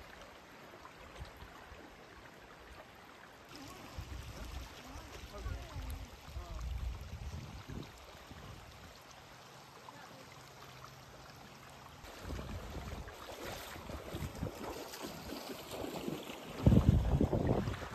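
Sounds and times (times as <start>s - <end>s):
floodwater rushing: 0.0s - 17.9s
person wading through water: 0.0s - 17.9s.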